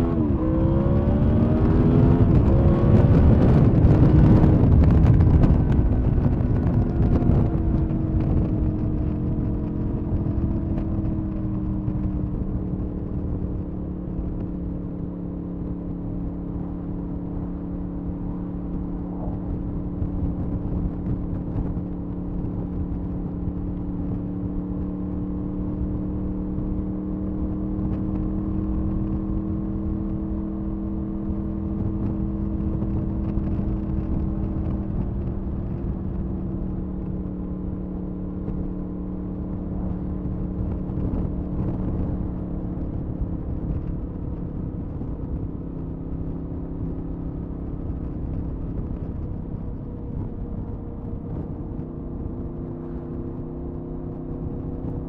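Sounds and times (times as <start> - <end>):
motorcycle engine running: 0.0 - 55.0
wind rumble on microphone: 0.0 - 55.0.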